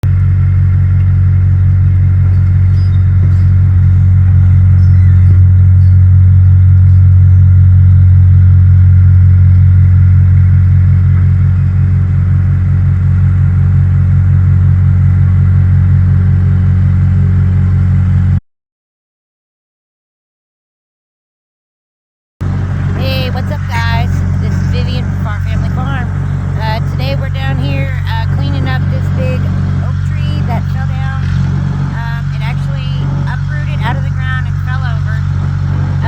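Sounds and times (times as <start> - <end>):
diesel engine running: 0.0 - 18.4, 22.4 - 36.0.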